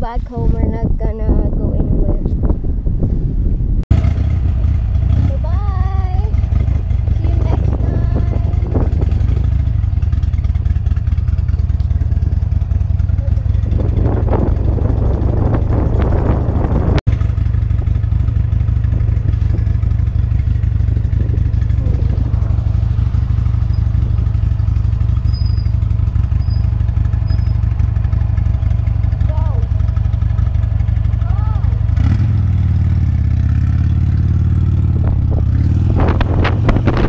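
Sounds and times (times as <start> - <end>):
motorcycle running on road: 0.0 - 37.0.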